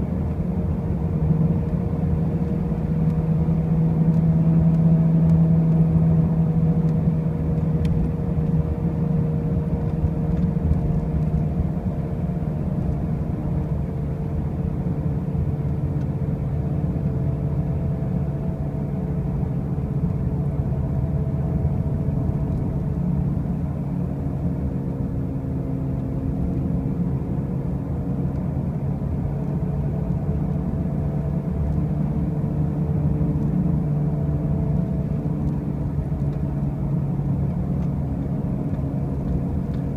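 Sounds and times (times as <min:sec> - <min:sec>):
car low drone: 0:00.0 - 0:39.9
road noise: 0:00.0 - 0:39.9.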